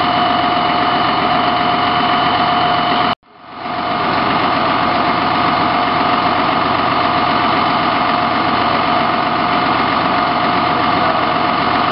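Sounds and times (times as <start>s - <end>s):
diesel engine running: 0.0s - 11.9s
steady whine: 0.0s - 11.9s.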